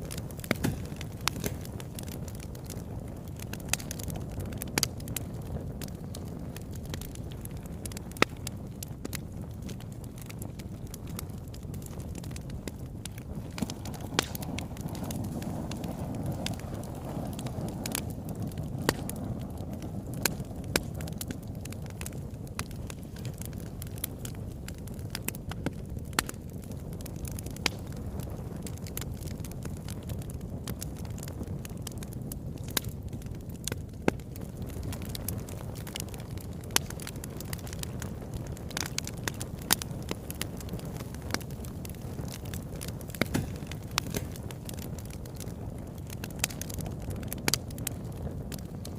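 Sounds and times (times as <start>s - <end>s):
fire crackling and popping: 0.0s - 48.9s
fire flames rumbling: 0.0s - 48.9s
wood snapping in fire: 0.0s - 48.9s.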